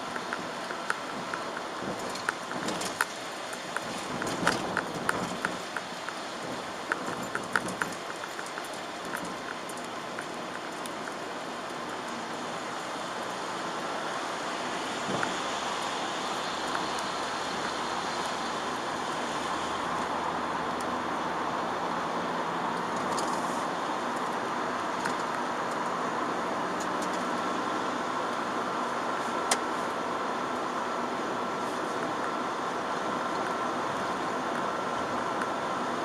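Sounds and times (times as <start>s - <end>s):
car engine: 0.0s - 36.0s
tyre and road noise on wet roads: 0.0s - 36.0s.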